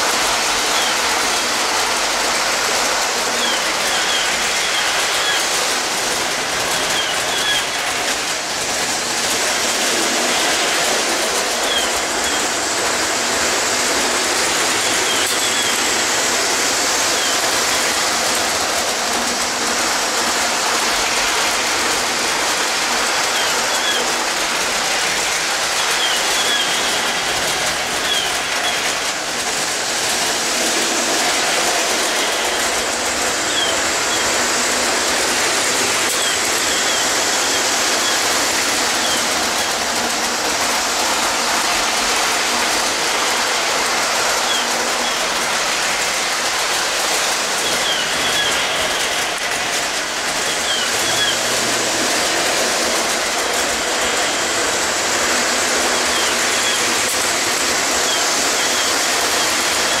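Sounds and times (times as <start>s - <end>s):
model train running on track: 0.0s - 60.0s.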